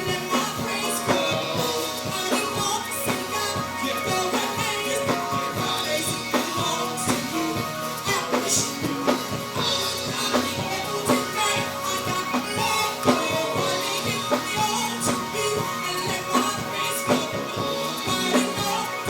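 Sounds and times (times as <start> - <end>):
gospel music with steady beat: 0.0 - 19.0.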